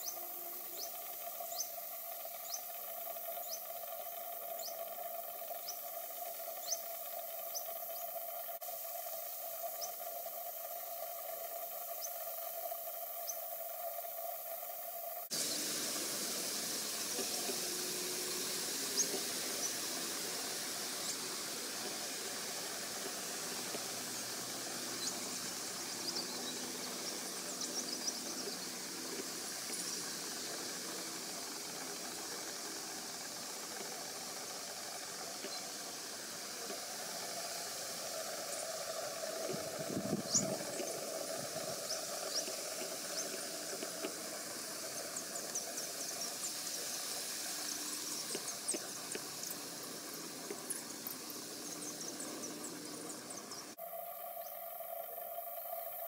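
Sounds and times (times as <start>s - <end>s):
high-pitched ticks and chirps: 0.0s - 56.0s
outdoor background hiss: 0.0s - 56.0s.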